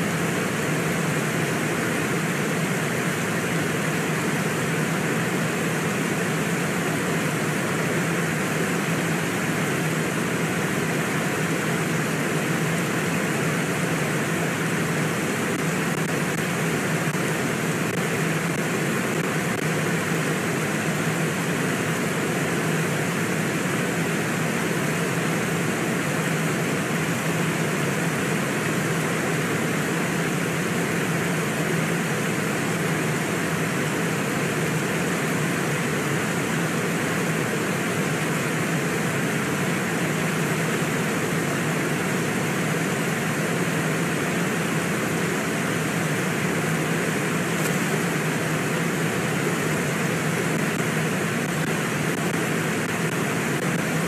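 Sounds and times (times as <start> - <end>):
low steady hum: 0.0 - 54.0
river rushing: 0.0 - 54.0.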